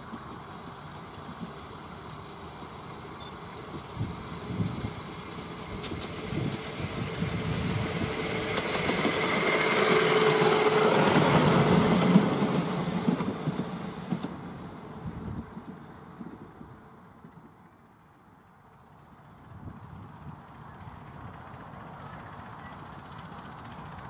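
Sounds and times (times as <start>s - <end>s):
miniature train passing: 0.0s - 24.0s.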